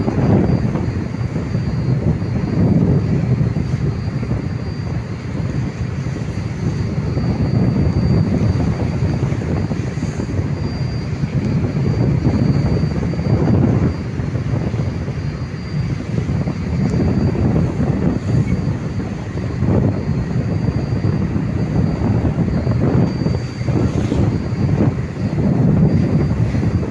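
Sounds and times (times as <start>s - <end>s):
faint high whine: 0.0s - 26.9s.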